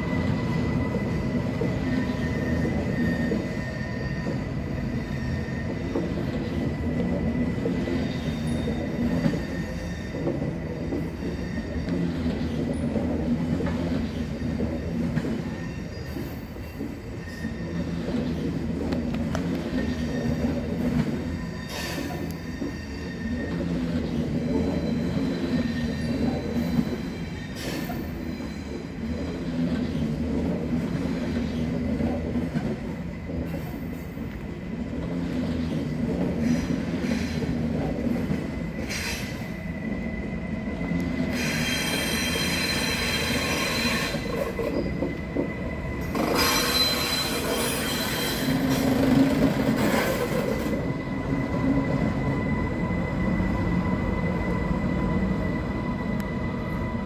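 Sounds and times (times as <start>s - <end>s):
train wheels rumbling: 0.0s - 57.0s
train wheels squealing: 0.0s - 57.0s.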